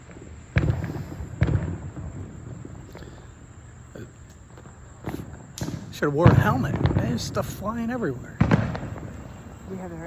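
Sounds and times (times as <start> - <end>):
faint fireworks pops: 0.0 - 10.0
fireworks booming: 0.0 - 10.0.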